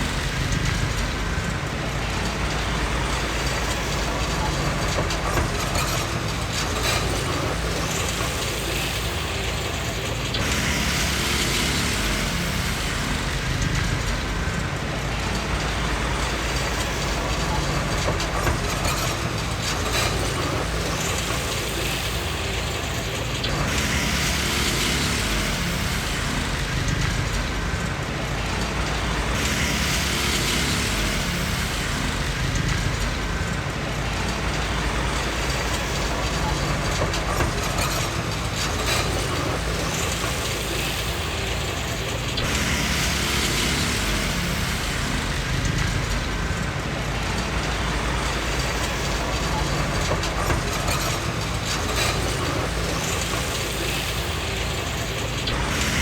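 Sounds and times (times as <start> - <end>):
bulldozer diesel engine running: 0.0 - 56.0
steel tracks clanking and squealing: 0.0 - 56.0.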